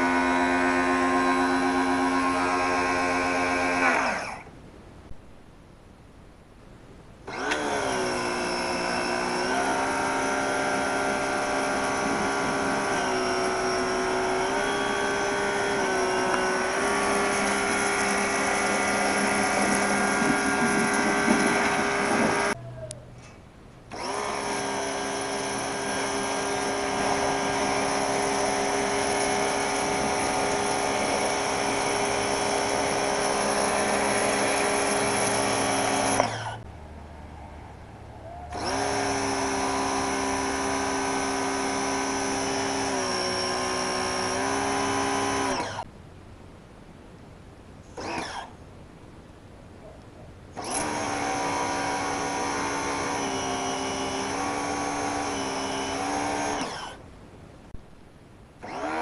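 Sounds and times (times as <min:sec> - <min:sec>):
pressure washer motor whining: 0:00.0 - 0:04.5, 0:07.3 - 0:22.6, 0:23.9 - 0:36.6, 0:38.5 - 0:45.8, 0:48.0 - 0:48.5, 0:50.6 - 0:57.0, 0:58.6 - 0:59.0.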